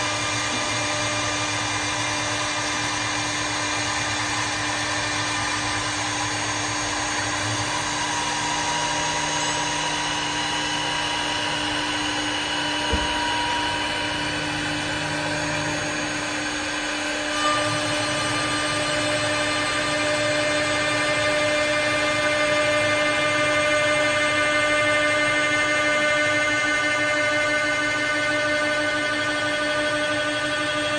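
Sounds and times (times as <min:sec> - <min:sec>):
lathe motors whining: 0:00.0 - 0:30.9.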